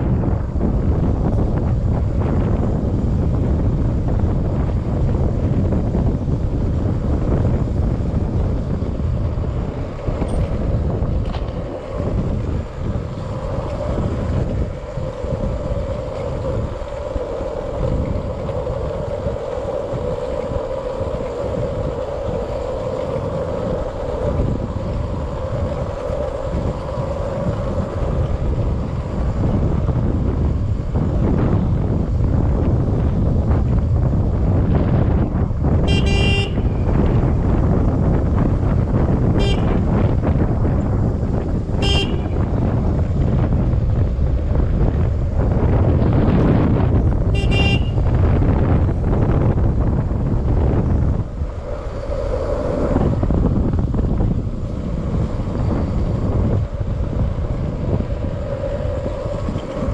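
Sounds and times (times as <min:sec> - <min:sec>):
motorcycle tyre noise: 0:00.0 - 0:59.9
steady mid-pitched hum: 0:00.0 - 0:59.9
wind buffeting microphone: 0:00.0 - 0:59.9.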